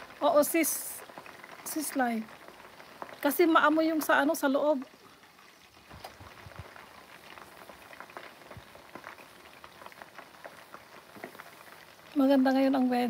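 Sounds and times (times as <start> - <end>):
oil sizzling with crackles: 0.0 - 13.0.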